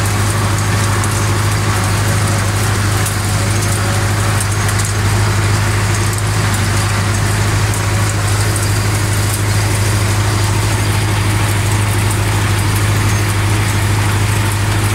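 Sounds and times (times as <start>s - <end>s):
tractor engine drone: 0.0s - 14.9s.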